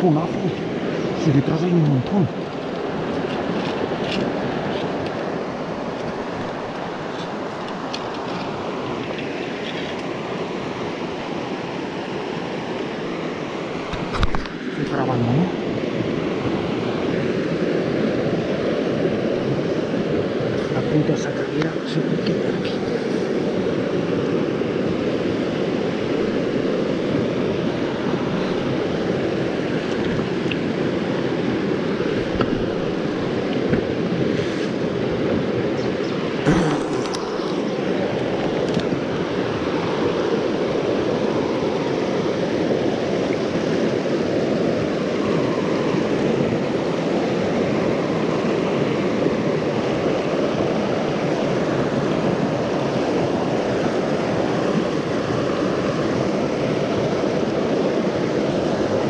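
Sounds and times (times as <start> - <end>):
flowing river water: 0.0 - 59.0.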